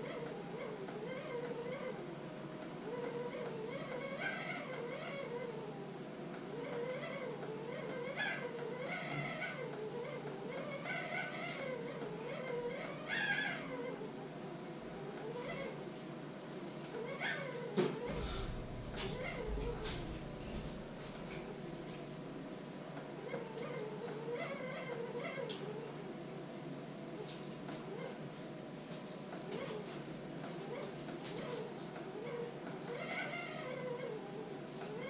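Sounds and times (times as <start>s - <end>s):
pet animal whining: 0.0s - 35.0s.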